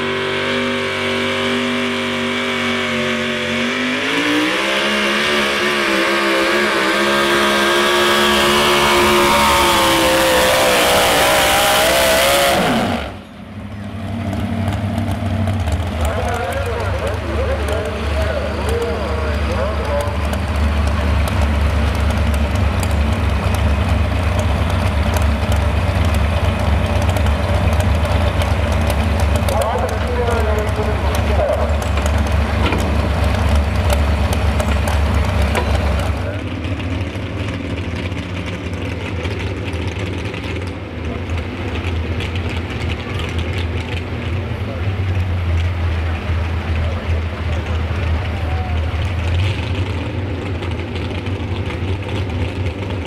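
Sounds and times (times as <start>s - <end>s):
truck engine idling loudly: 6.9s - 53.0s.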